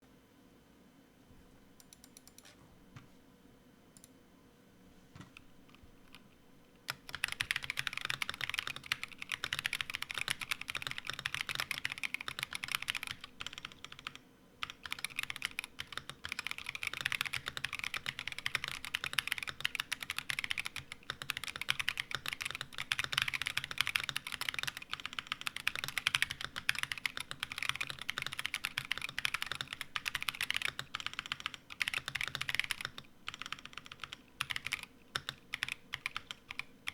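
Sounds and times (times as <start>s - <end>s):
mechanical keyboard typing: 1.8s - 2.5s, 6.0s - 36.9s.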